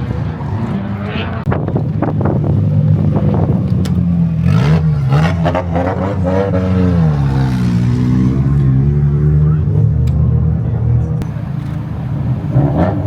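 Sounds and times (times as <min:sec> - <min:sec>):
car engine revving: 0:00.0 - 0:09.6, 0:11.2 - 0:13.0.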